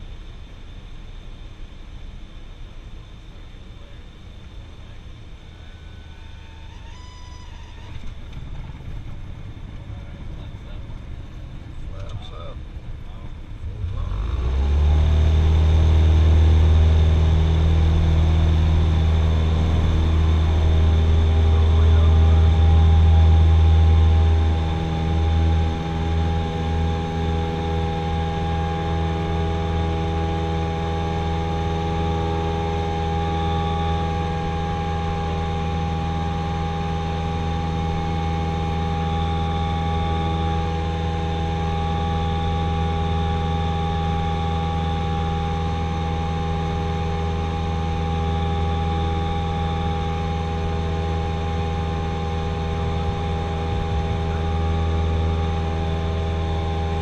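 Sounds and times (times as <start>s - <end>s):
plane engine and propeller: 0.0s - 57.0s.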